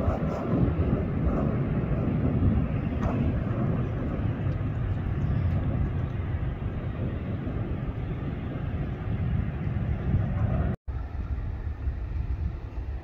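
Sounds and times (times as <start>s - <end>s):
distant jet airliner rumble: 0.0s - 13.0s.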